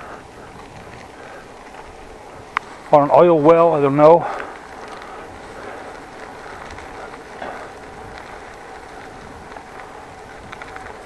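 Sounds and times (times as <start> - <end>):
wind rushing on microphone: 0.0 - 11.0.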